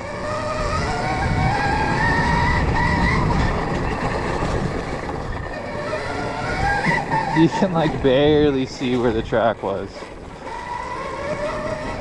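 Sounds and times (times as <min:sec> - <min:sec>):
electric motor whine: 0:00.0 - 0:12.0
tyres rumbling on dirt: 0:00.0 - 0:12.0.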